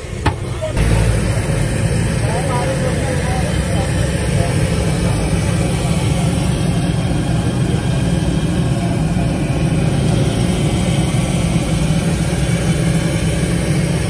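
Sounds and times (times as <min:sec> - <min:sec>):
gas burner roaring: 0:00.0 - 0:14.0.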